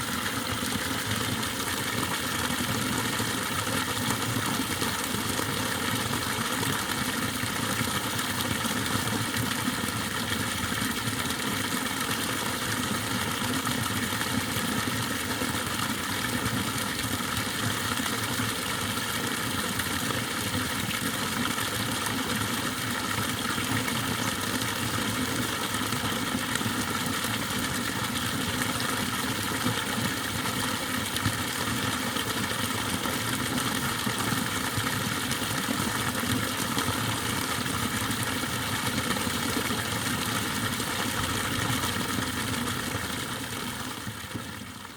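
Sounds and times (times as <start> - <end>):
water pouring from a pipe: 0.0 - 44.9.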